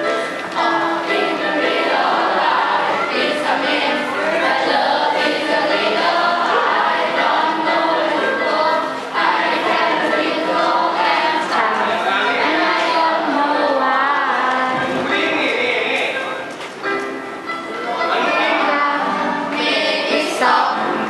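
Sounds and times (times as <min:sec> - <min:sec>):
children singing in unison: 0:00.0 - 0:15.3, 0:18.0 - 0:21.0.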